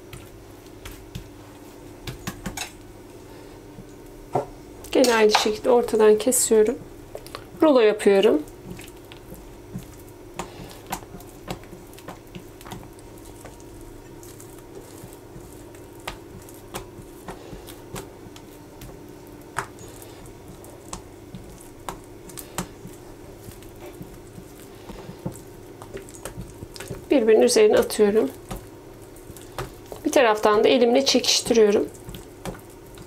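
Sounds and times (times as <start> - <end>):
hands rolling dough: 0.0 - 33.0
steady low hum: 0.0 - 33.0.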